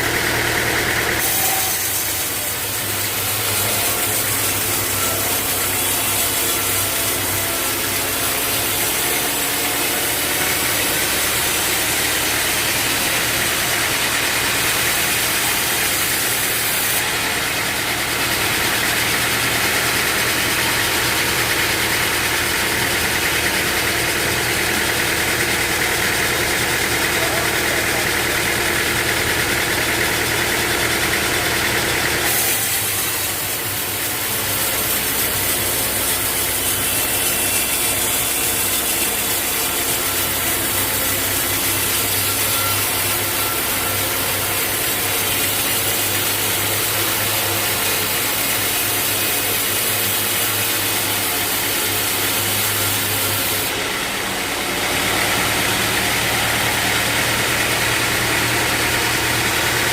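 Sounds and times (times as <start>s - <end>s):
band saw cutting log: 0.0s - 59.9s
sawmill engine running: 0.0s - 59.9s.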